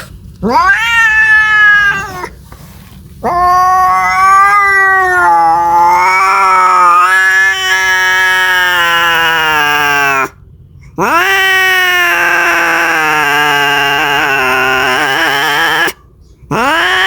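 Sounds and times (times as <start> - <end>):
cat yowling: 0.4 - 2.4, 3.2 - 10.4, 11.0 - 17.0.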